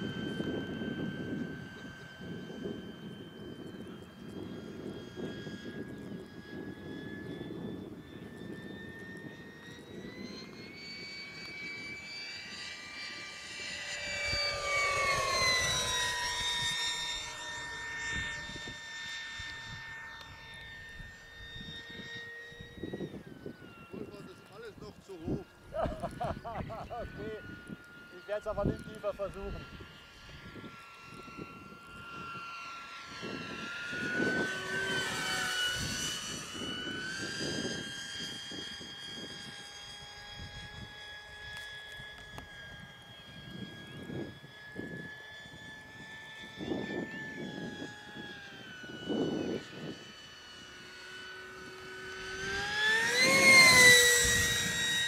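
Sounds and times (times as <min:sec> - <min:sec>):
model jet fan whining: 0:00.0 - 0:55.0.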